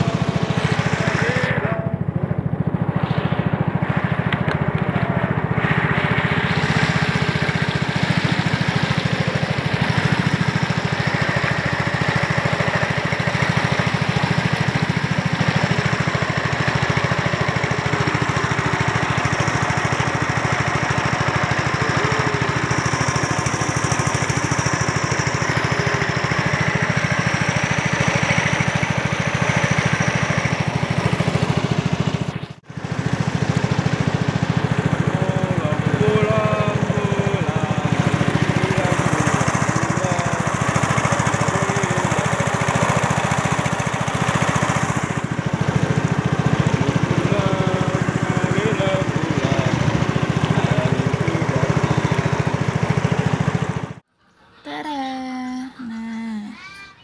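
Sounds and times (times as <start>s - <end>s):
water rushing along hull: 0.0s - 54.0s
outboard boat engine running: 0.0s - 54.1s.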